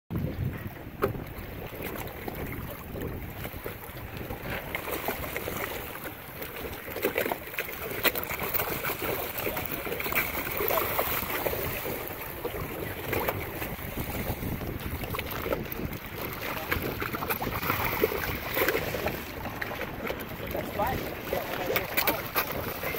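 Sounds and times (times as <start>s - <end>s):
choppy water splashing: 0.1s - 22.9s
wind buffeting microphone: 0.1s - 22.9s.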